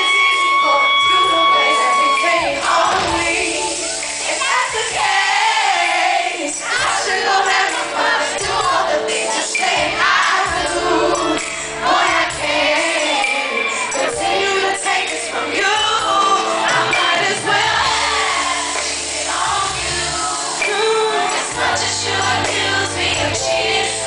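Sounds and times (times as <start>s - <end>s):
backing singers: 0.0s - 24.0s
live band playing: 0.0s - 24.0s
woman singing lead: 0.0s - 24.0s.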